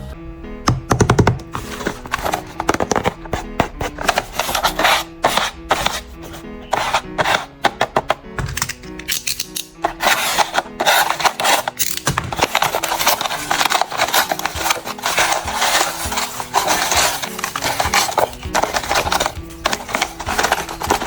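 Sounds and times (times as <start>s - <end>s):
background music: 0.0s - 21.0s
paper clicking and rustling: 1.0s - 21.0s.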